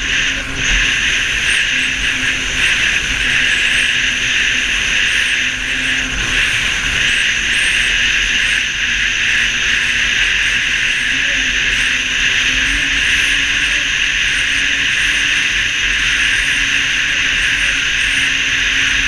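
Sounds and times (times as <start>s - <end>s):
snowmobile engine droning: 0.0s - 19.0s.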